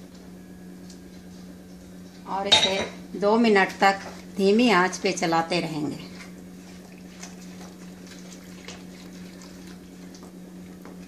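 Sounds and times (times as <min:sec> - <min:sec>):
steady low hum: 0:00.0 - 0:11.0
puree bubbling in a pan: 0:00.4 - 0:11.0.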